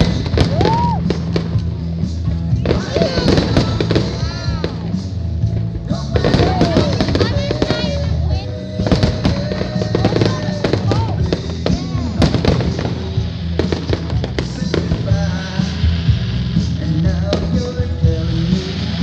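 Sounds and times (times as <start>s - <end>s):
fireworks popping and crackling: 0.0s - 19.0s
music with low bass line: 0.0s - 19.0s.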